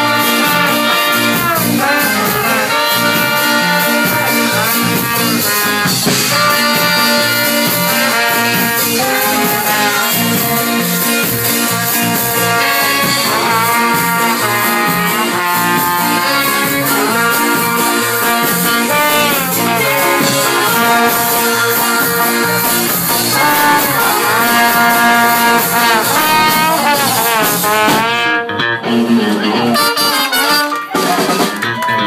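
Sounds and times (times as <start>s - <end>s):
brass horn section playing: 0.0s - 31.9s
drums: 0.0s - 32.0s.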